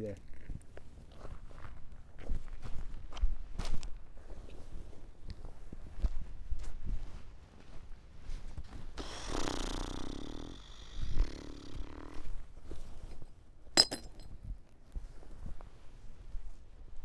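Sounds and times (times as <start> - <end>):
rough rustling noise: 0.3 - 13.7, 14.3 - 17.0.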